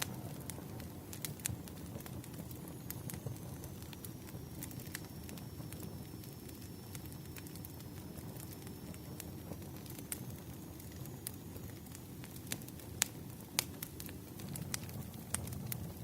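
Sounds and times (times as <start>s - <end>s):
fire popping and crackling: 0.0s - 16.0s
wood fire burning: 0.0s - 16.0s.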